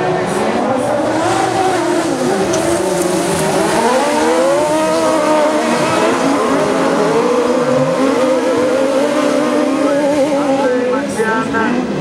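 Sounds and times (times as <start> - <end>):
buggy engines revving: 0.0 - 12.0.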